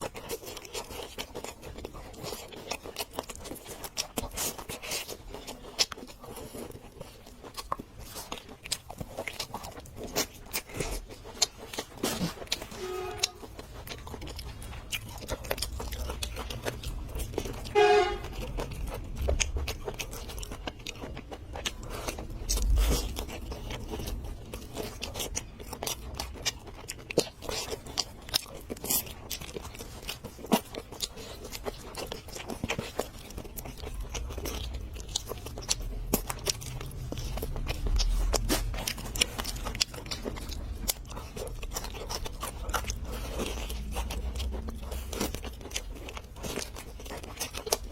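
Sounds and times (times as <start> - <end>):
chewing and crunching: 0.0 - 47.9.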